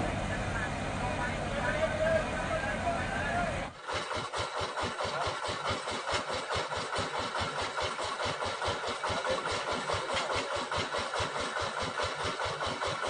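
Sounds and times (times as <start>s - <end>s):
engine idling with even chug: 0.0s - 13.0s.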